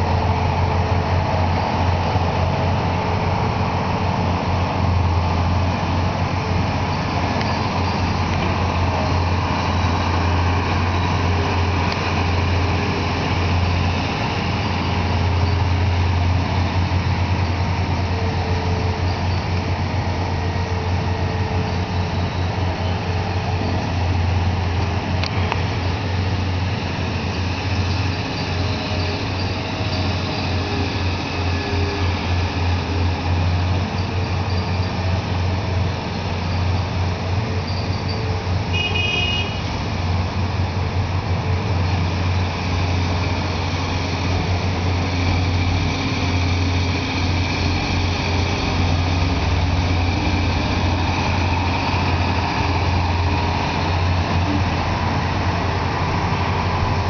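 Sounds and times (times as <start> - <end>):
excavator diesel engine: 0.0 - 57.0
truck engine running: 0.0 - 57.0.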